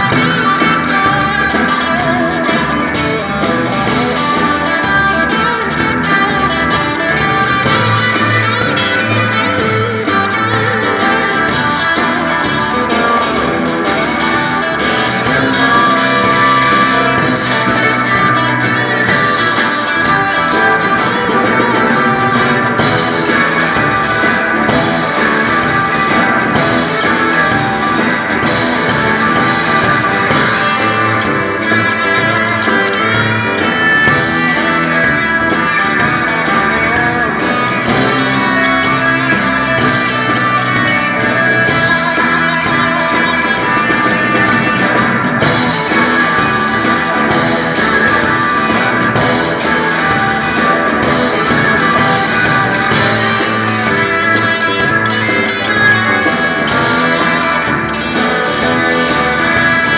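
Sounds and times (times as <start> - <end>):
drum kit: 0.0 - 59.9
electric bass guitar: 0.0 - 59.9
electric guitars: 0.0 - 59.9.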